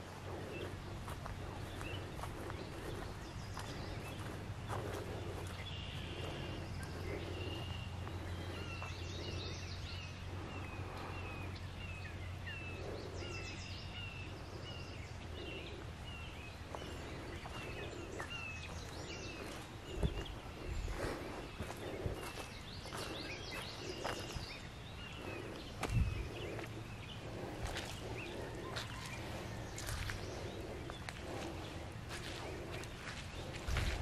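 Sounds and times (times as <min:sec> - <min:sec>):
footsteps on muddy trail: 0:00.0 - 0:34.0
bird chirping: 0:00.3 - 0:34.0.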